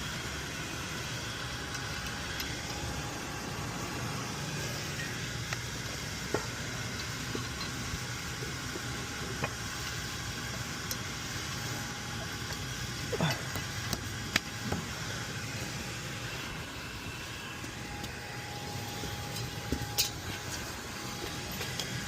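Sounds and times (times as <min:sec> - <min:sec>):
mechanical hum of equipment: 0:00.0 - 0:22.0.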